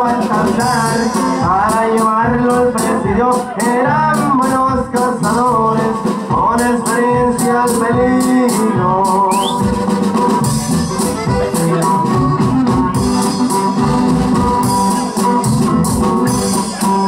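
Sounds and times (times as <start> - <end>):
accordion melody: 0.0 - 17.0
guitar: 0.0 - 17.0
steady drum beat: 0.0 - 17.0.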